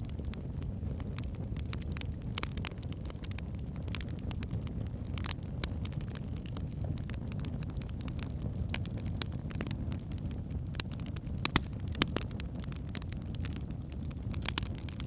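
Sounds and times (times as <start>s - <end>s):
fire crackles and pops: 0.0s - 15.0s
fire rumbling in a fireplace: 0.0s - 15.0s.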